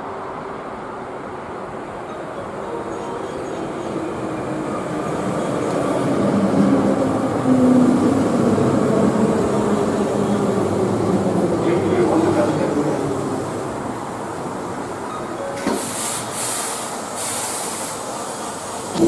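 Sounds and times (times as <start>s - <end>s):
electric train rumbling by: 0.0s - 19.0s.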